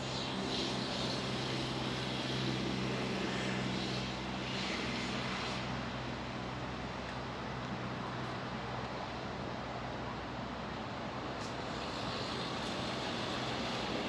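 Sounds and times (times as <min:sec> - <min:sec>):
distant engine drone: 0:00.0 - 0:14.0
outdoor air hiss: 0:00.0 - 0:14.0.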